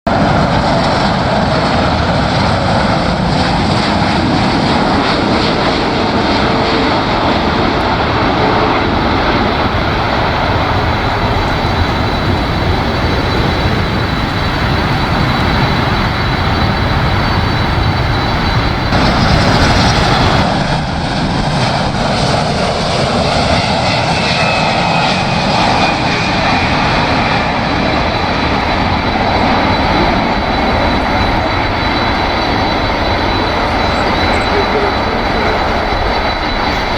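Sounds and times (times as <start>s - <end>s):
high turbine whine: 0.1s - 36.9s
jet engines roaring: 0.1s - 36.9s.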